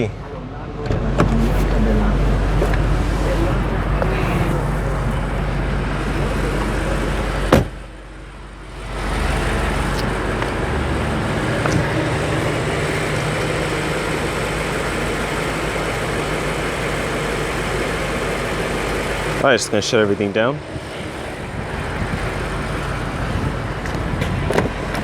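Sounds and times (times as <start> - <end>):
car engine idling: 0.7 - 25.0.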